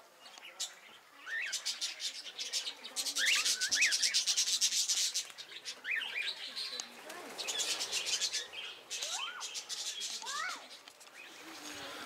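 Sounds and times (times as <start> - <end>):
scratchy bird chatter: 0.3 - 12.0.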